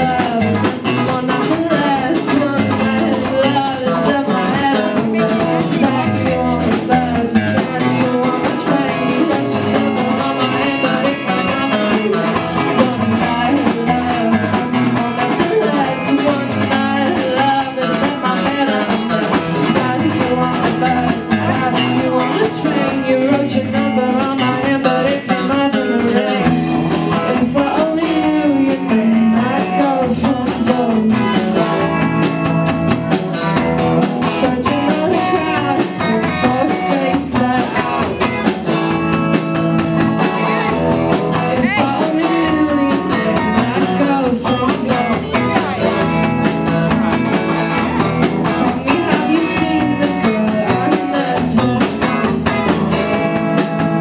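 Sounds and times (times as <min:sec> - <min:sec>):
drum kit: 0:00.0 - 0:54.0
electric guitars: 0:00.0 - 0:54.0
woman singing lead: 0:00.0 - 0:54.0.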